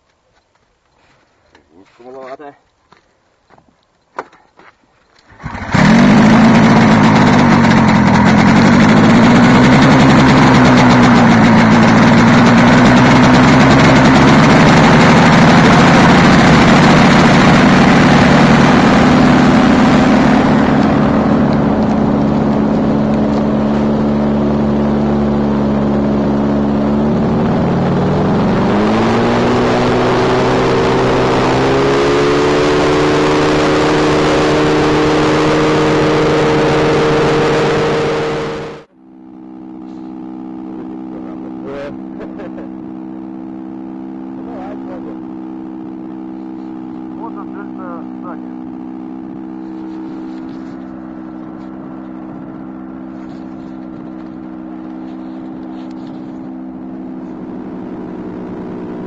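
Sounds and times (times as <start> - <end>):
propeller buzz: 5.3 - 59.0
two-stroke engine running hard: 5.3 - 59.0.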